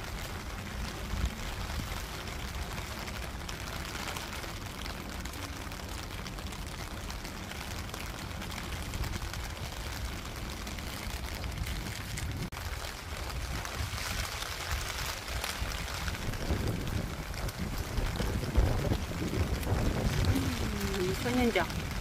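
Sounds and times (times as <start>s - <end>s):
rain on leaves and pots: 0.0s - 22.0s.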